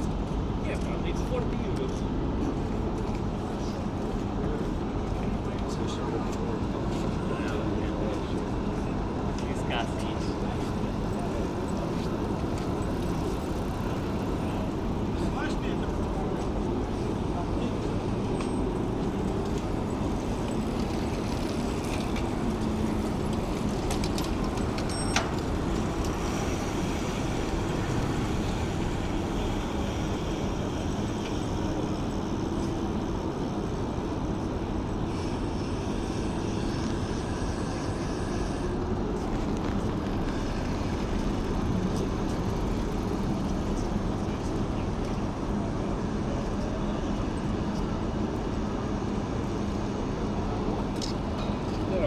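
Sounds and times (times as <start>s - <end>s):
road traffic rumble: 2.2s - 52.0s.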